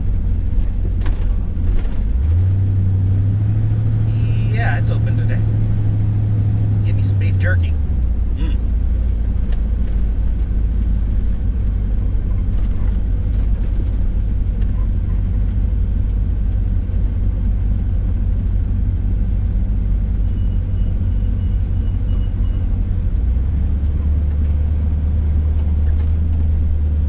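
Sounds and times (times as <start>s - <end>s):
van engine and road noise: 0.0s - 27.0s.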